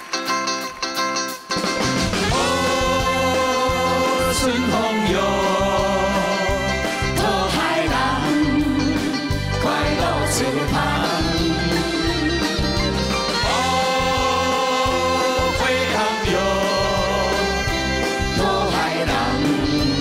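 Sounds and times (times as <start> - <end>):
band backing track: 0.0 - 20.0
group singing pop song: 2.2 - 12.7, 13.4 - 20.0.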